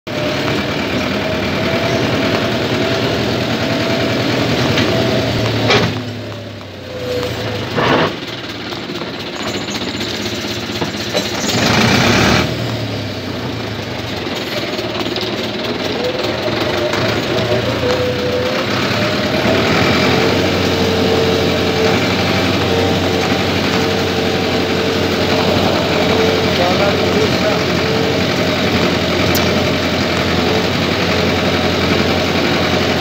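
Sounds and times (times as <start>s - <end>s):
tractor engine running: 0.1s - 33.0s.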